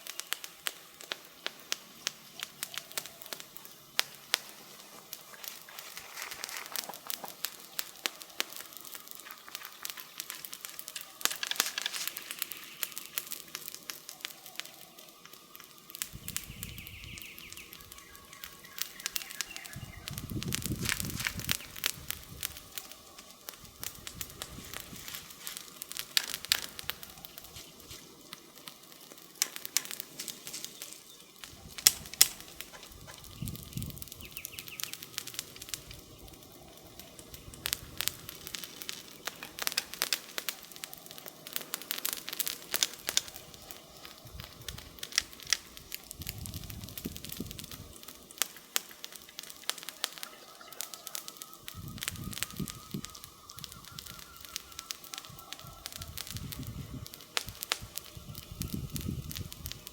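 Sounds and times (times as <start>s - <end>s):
campfire crackling: 0.0s - 59.9s
sharp pops and snaps: 0.0s - 59.9s.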